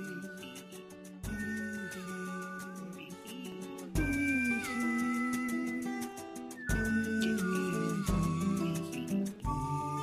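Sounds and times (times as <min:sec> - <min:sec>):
quick ticking beat: 0:00.0 - 0:10.0.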